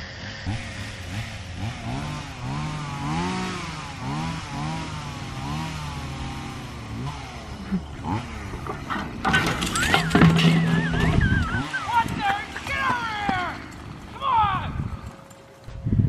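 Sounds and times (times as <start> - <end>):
chainsaw revving: 0.0 - 15.6.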